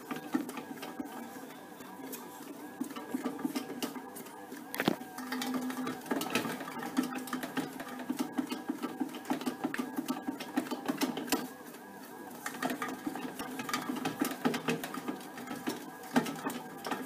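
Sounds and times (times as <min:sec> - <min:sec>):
bread maker motor humming: 0:00.0 - 0:17.0.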